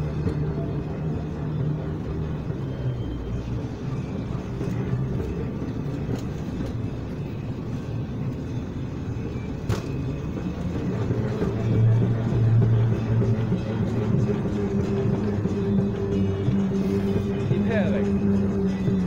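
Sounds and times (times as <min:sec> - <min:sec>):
moving walkway rumble: 0:00.0 - 0:19.0.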